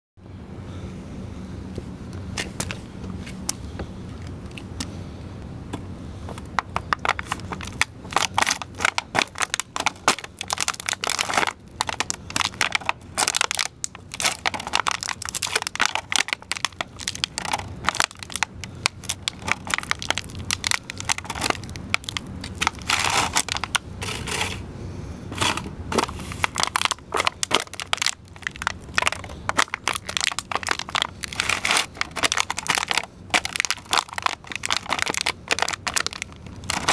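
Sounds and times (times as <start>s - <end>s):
boots crushing plastic trays: 6.3s - 24.5s, 25.4s - 36.9s.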